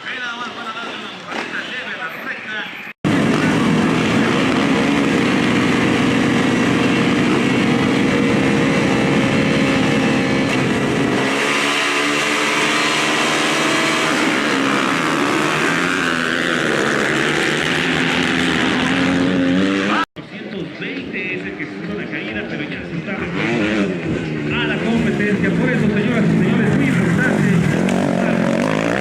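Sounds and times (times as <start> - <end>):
motocross bike engines revving: 3.1 - 20.1, 20.9 - 29.0.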